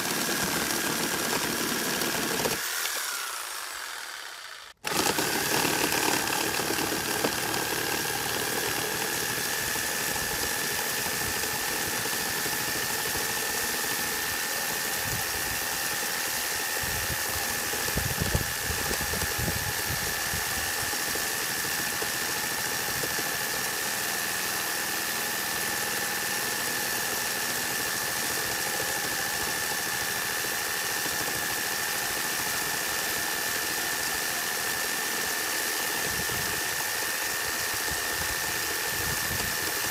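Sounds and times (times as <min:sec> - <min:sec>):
reciprocating saw cutting wood: 0:00.0 - 0:39.9.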